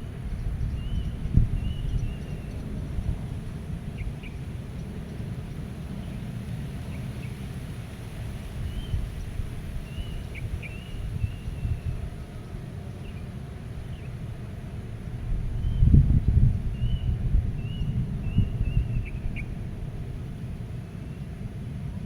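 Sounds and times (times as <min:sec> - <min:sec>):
gusty wind: 0:00.0 - 0:22.0.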